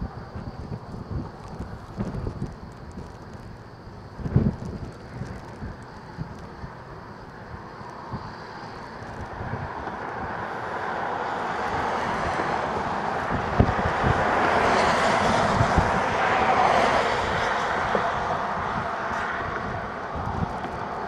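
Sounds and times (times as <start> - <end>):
tyre noise on wet road: 0.0 - 21.0
wind buffeting microphone: 0.0 - 21.0.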